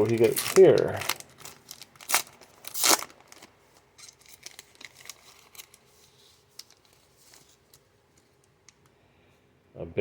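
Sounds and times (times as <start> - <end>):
wrapper crinkle: 0.0 - 8.8.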